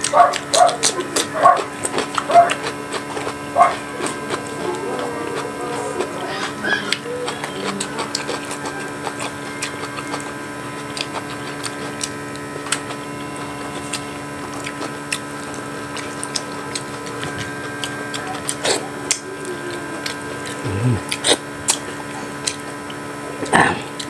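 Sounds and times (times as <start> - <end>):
person chewing food: 0.0 - 24.0
steady hum: 0.0 - 24.0.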